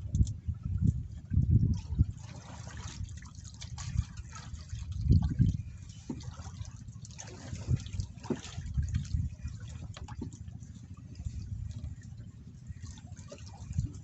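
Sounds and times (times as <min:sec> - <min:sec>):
water splashing and lapping: 0:00.0 - 0:14.0
wind rumble on microphone: 0:00.0 - 0:14.0.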